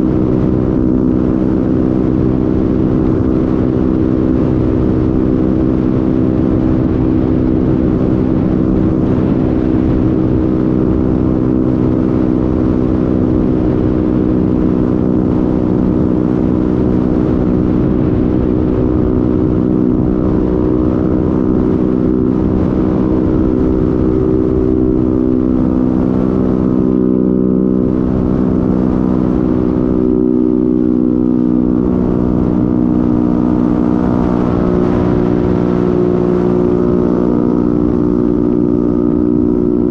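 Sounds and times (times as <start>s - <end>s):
scooter engine droning: 0.0s - 39.9s
wind rumbling over microphone: 0.0s - 39.9s.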